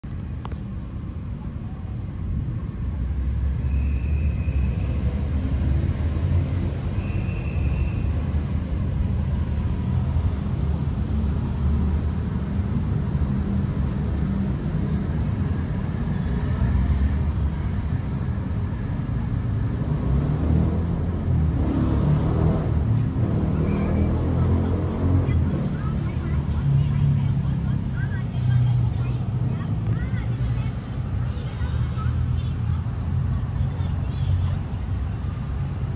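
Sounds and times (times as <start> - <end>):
low outdoor rumble: 0.0 - 35.9.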